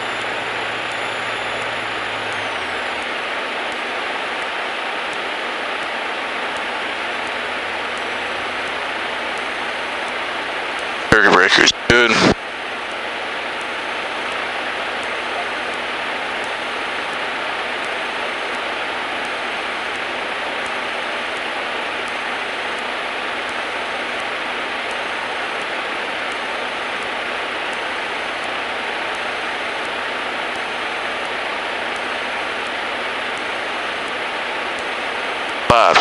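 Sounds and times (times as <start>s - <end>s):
faint steady whine: 0.0s - 36.0s.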